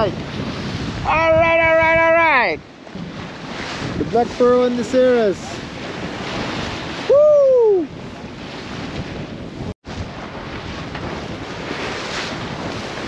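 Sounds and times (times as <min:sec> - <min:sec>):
choppy water splashing on hull: 0:00.0 - 0:13.0
wind buffeting microphone: 0:00.0 - 0:13.0.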